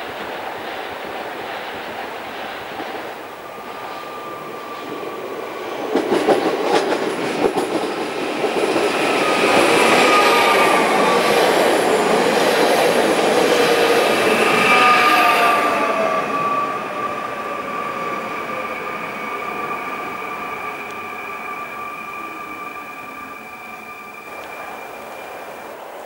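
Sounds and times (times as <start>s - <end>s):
train wheels rolling: 0.0s - 26.0s.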